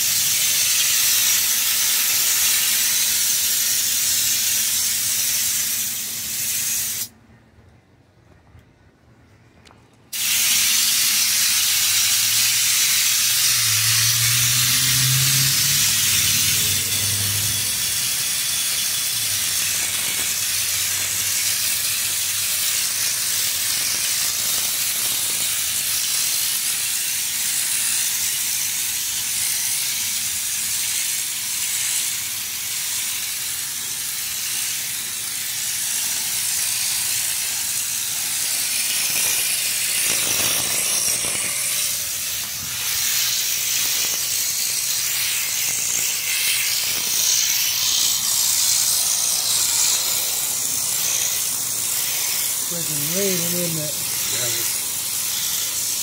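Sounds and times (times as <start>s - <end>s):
spray gun hissing: 0.0s - 7.1s, 10.1s - 56.0s.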